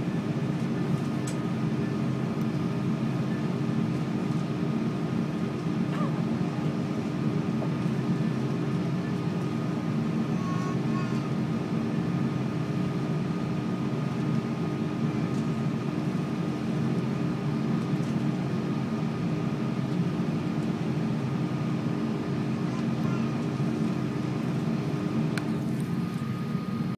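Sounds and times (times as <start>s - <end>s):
aircraft engines rumbling: 0.0s - 26.9s
constant hum: 0.0s - 26.9s.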